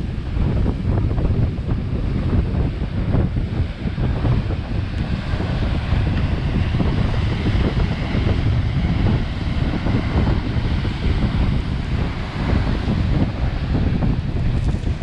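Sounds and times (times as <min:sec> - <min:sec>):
rough surf: 0:00.0 - 0:15.0
wind buffeting microphone: 0:00.0 - 0:15.0.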